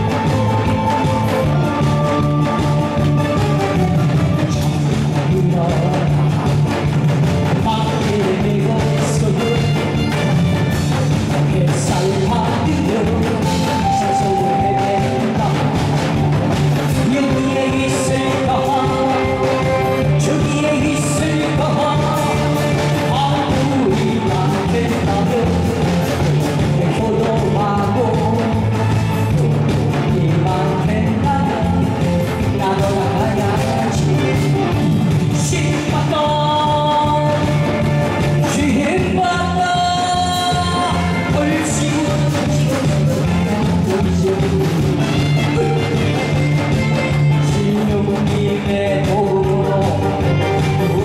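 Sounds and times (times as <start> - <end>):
loud backing music: 0.0 - 51.0
man singing live: 0.0 - 51.0.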